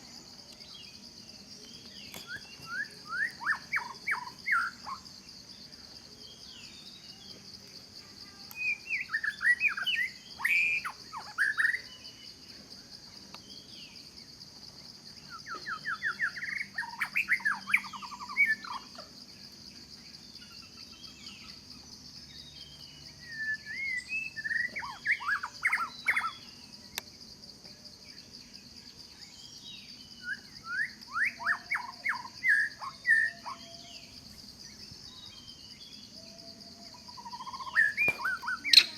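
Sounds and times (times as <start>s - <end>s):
high insect drone: 0.0s - 38.9s
songbird singing: 0.0s - 38.9s.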